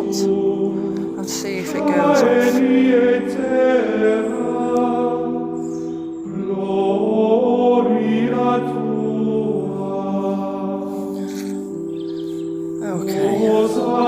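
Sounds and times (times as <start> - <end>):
choir singing held notes: 0.0 - 14.0.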